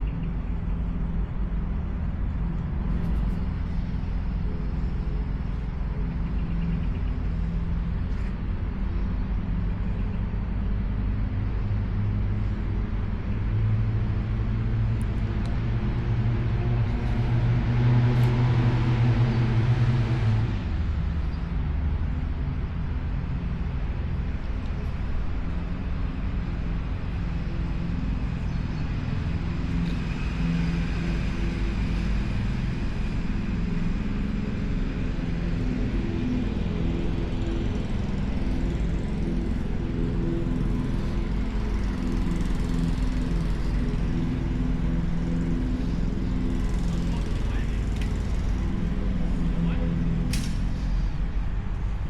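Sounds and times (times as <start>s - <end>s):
low engine hum: 0.0s - 52.0s.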